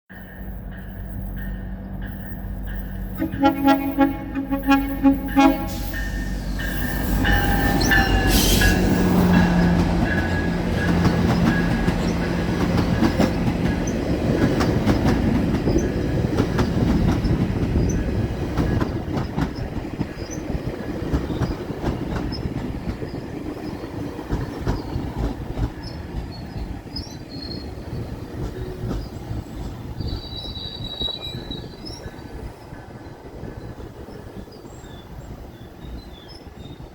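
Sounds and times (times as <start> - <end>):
diesel train rolling on tracks: 0.1 - 36.9.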